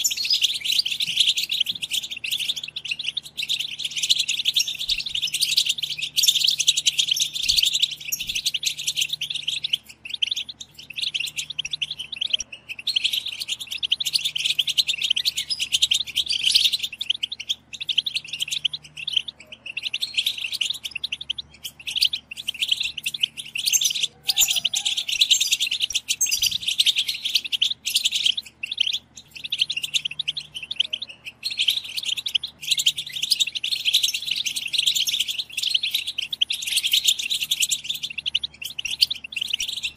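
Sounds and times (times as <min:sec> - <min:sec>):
goldfinches twittering chatter: 0:00.0 - 0:39.9.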